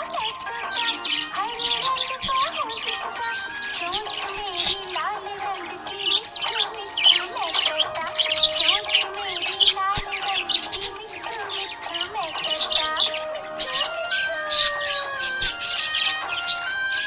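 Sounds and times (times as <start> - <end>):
background music: 0.0 - 17.0
budgies chirping: 0.0 - 17.0.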